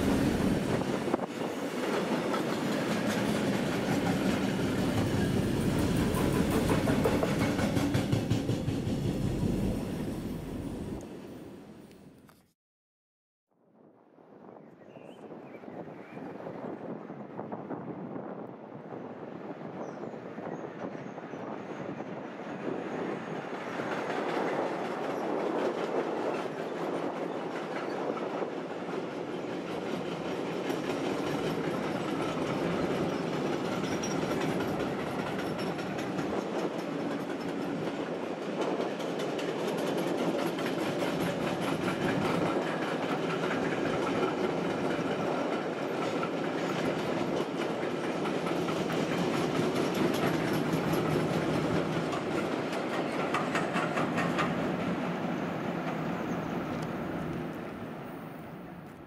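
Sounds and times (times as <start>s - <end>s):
freight train wheels rumbling: 0.0s - 11.2s, 20.8s - 59.0s.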